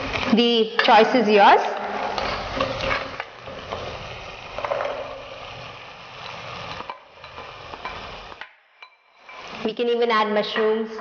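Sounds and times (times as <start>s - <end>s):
masala sizzling in a pot: 0.0s - 11.0s
spatula scraping and stirring: 0.8s - 9.8s.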